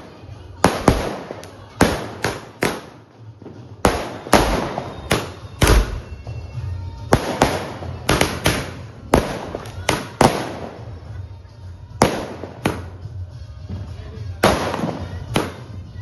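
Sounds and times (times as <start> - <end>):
firework bangs: 0.0 - 11.1, 11.9 - 16.0.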